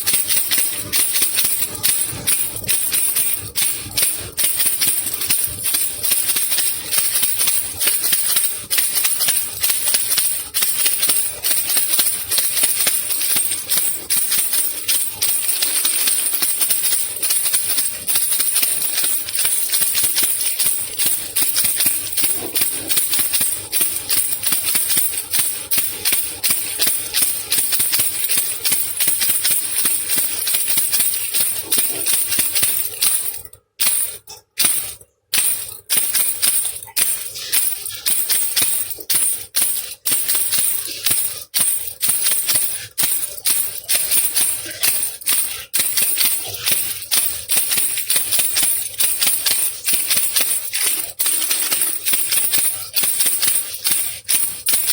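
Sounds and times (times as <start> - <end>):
baby rattle shaken: 0.0 - 54.9.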